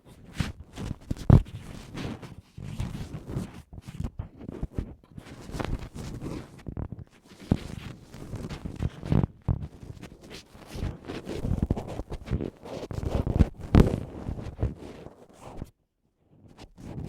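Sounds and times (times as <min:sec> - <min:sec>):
ear pick scraping microphone: 0:00.2 - 0:15.7, 0:16.5 - 0:17.0.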